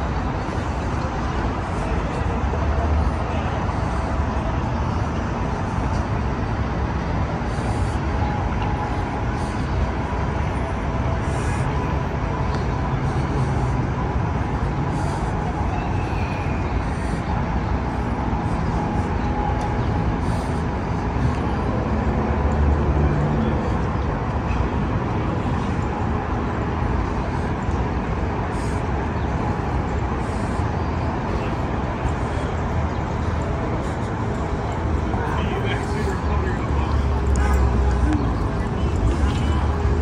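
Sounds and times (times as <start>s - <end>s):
low traffic rumble: 0.0s - 40.0s.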